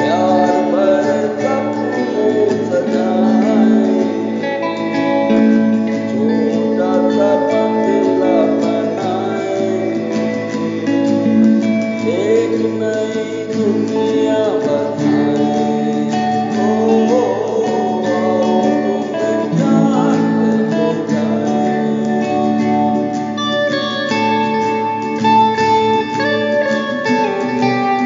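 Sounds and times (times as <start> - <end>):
gliding melody line: 0.0 - 28.0
strummed acoustic guitar: 0.0 - 28.0.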